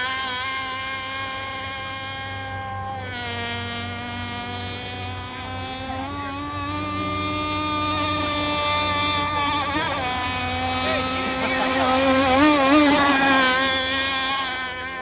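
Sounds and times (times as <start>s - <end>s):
rc boat engine buzzing: 0.0s - 15.0s.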